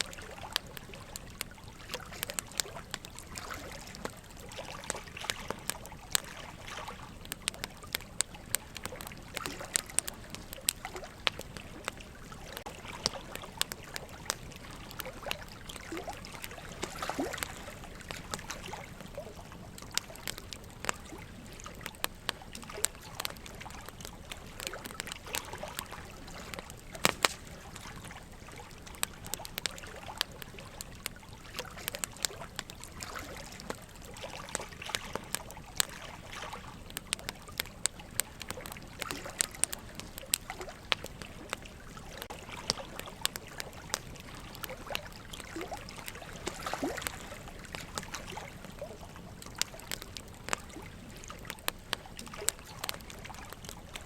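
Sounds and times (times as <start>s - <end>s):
running water trickling: 0.0s - 54.0s
wood fire crackling and popping: 0.0s - 54.0s.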